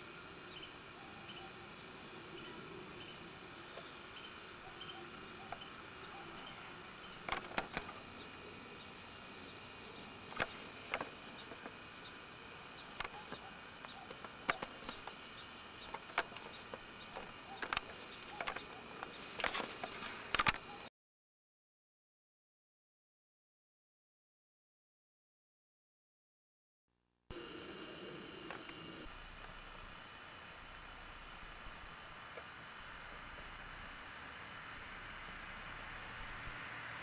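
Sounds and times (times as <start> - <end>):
faint steady hiss: 0.0 - 20.9, 27.3 - 37.0.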